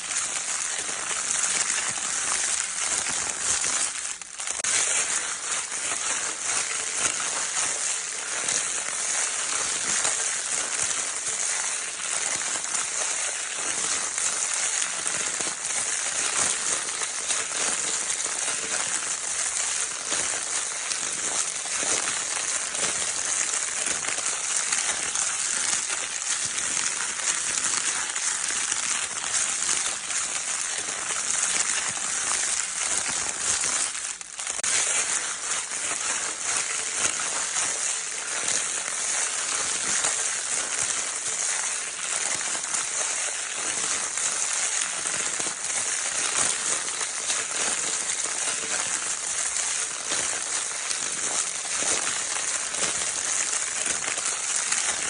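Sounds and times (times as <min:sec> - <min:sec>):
crinkle paper crackling: 0:00.0 - 0:55.0.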